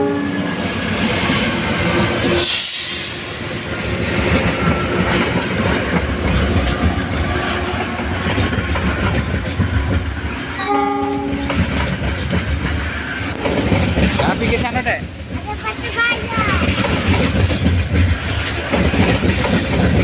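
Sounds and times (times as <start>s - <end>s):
train wagons clattering on rails: 0.0s - 20.0s.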